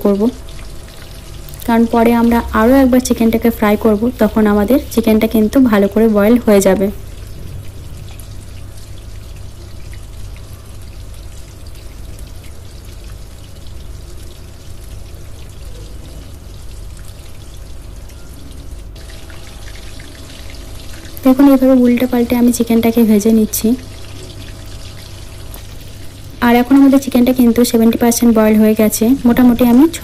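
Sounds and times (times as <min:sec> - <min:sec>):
chicken deep-frying in oil: 0:00.0 - 0:30.0.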